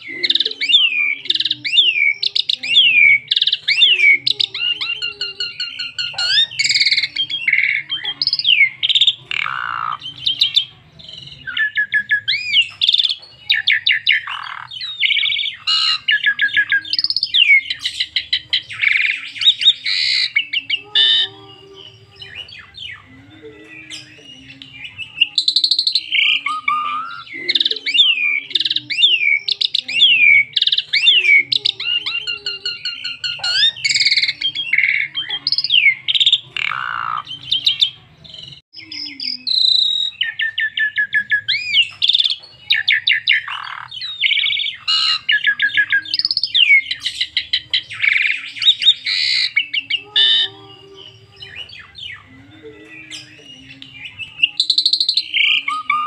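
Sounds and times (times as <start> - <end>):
starling singing trills and whistles: 0.0 - 56.0.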